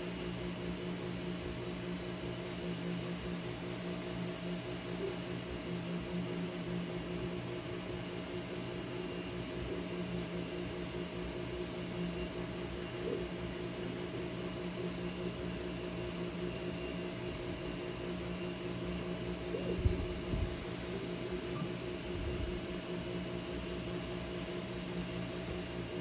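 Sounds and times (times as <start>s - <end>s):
printer motors and fans humming: 0.0s - 26.0s.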